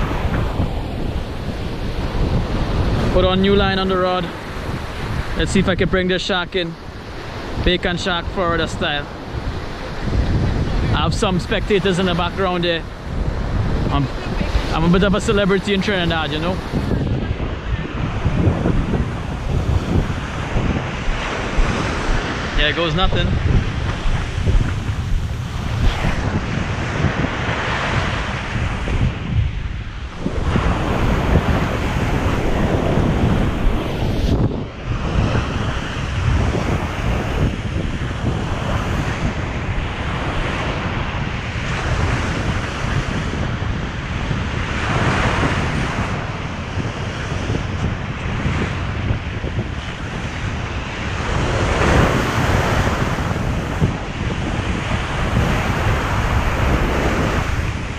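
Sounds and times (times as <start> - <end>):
ocean surf washing onto beach: 0.0 - 57.9
wind rumbling on microphone: 0.0 - 57.9.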